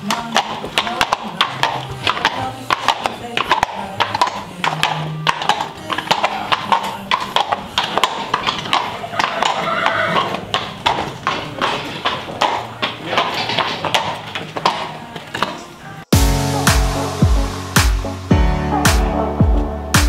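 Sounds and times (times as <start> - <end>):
horse hooves on brick floor: 0.0 - 18.1.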